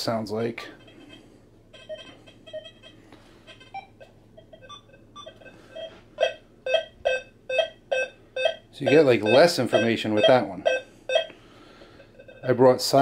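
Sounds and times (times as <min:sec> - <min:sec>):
metal detector beeping: 0:00.6 - 0:11.3, 0:12.0 - 0:13.0.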